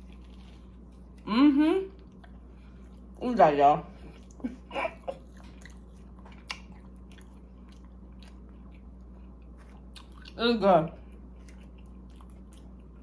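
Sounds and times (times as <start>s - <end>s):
person chewing food: 0.0s - 1.3s, 2.0s - 3.2s, 4.0s - 10.4s, 11.0s - 13.0s.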